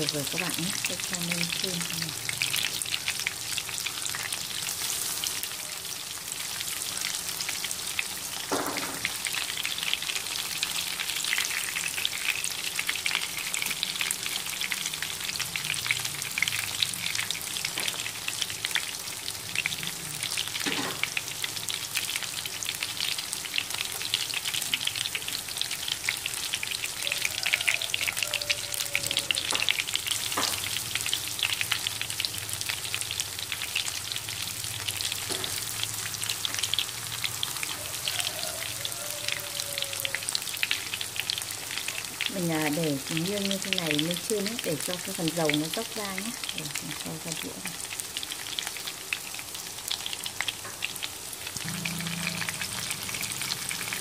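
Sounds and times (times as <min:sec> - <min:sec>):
cutlets sizzling in hot oil: 0:00.0 - 0:54.0.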